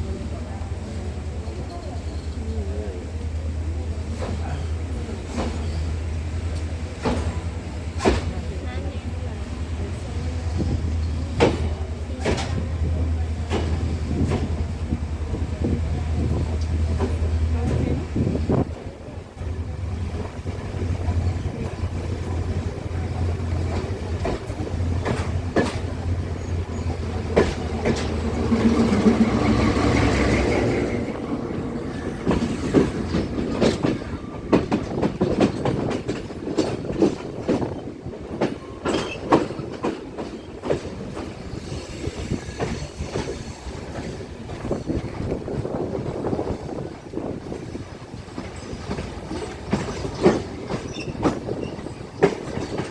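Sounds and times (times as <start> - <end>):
train engine drone: 0.0 - 52.9
train wheels clicking over rail joints: 3.8 - 8.6, 9.6 - 52.9.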